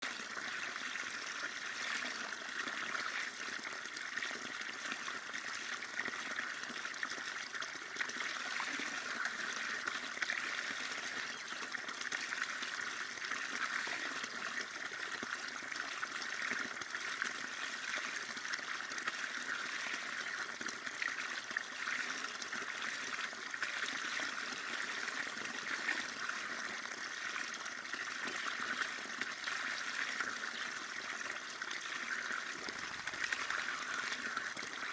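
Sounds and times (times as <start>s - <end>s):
water trickling and babbling: 0.0s - 34.9s.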